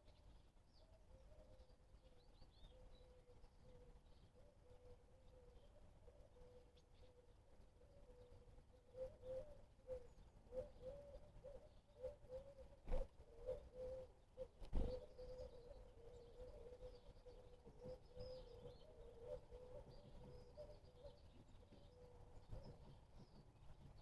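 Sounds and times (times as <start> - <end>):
faint bird calls: 0.0 - 24.0.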